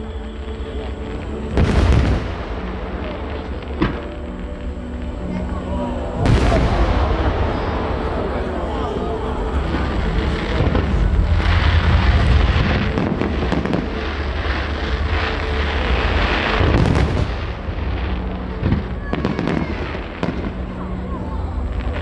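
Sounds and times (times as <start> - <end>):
fireworks bangs: 0.0 - 5.3, 6.0 - 20.8
fireworks crackling: 0.0 - 22.0.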